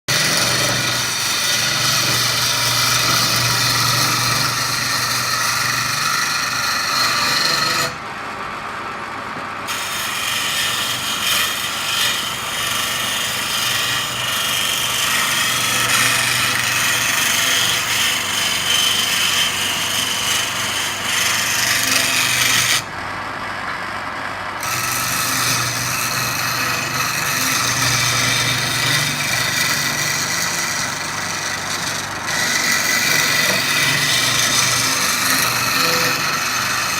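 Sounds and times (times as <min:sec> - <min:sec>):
turning tool scraping wood: 0:00.1 - 0:08.0, 0:09.7 - 0:22.9, 0:24.6 - 0:36.9
lathe motor hum: 0:00.1 - 0:08.8, 0:09.7 - 0:36.9.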